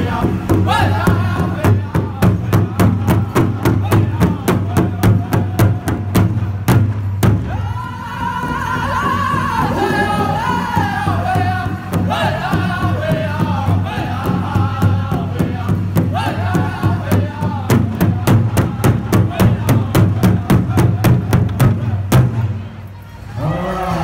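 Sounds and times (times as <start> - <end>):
men singing in high voices: 0.0 - 6.4, 7.4 - 22.0
large hide drum beating: 0.0 - 22.7.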